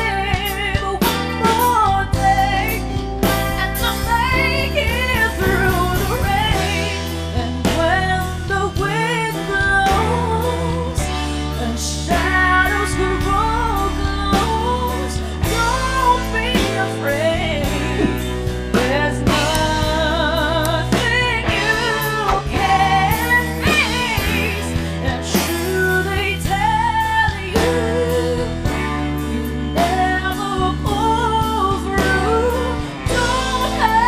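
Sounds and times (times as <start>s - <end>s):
live band playing: 0.0s - 34.0s
woman singing a slow ballad: 0.0s - 34.0s.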